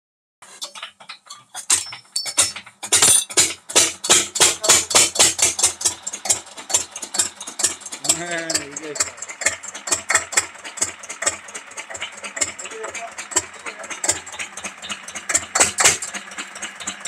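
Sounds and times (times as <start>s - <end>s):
diesel engine knocking: 1.6s - 17.0s.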